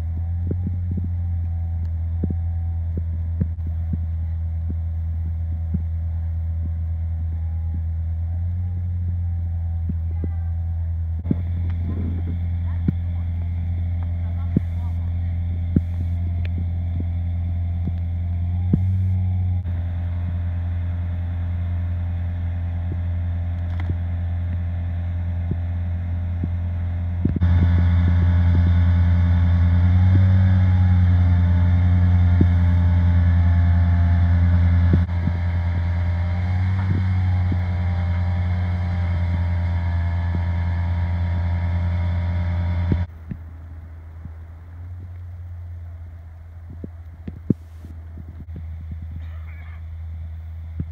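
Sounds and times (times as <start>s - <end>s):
machine engine humming: 0.0s - 50.9s.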